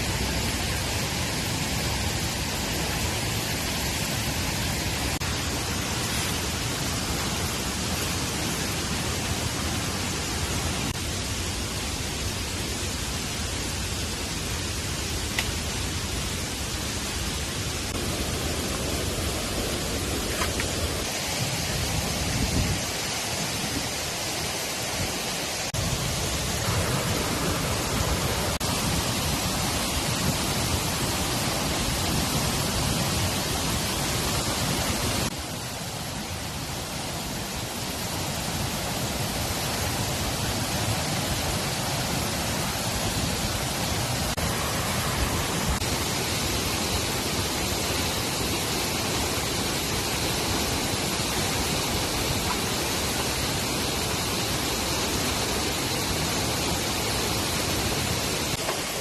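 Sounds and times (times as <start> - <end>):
rain: 0.0 - 59.0
running water: 0.0 - 59.0.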